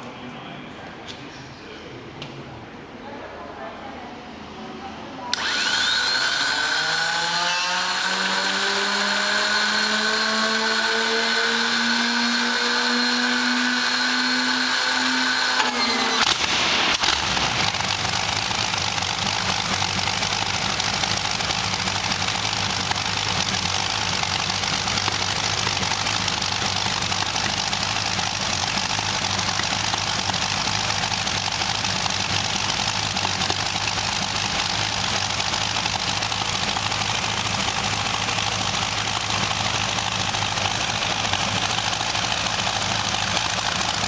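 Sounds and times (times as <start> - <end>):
starter motor whine: 5.3 - 44.0
aero engine rough idle: 5.4 - 44.0.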